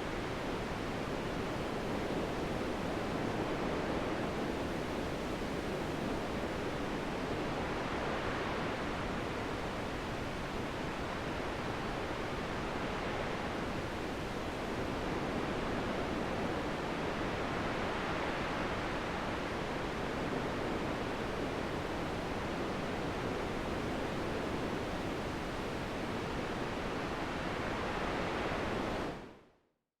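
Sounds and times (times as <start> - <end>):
steady wind blowing: 0.0 - 29.5.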